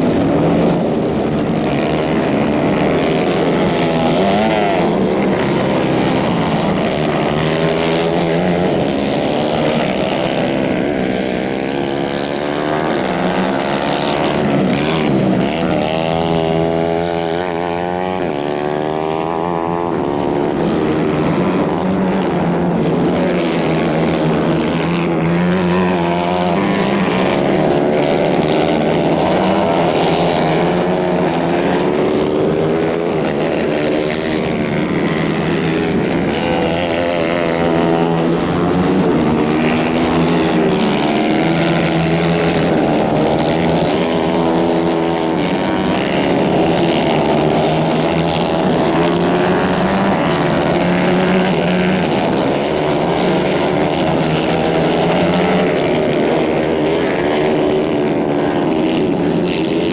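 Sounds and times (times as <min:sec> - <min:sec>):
racing kart engines revving: 0:00.0 - 0:59.9.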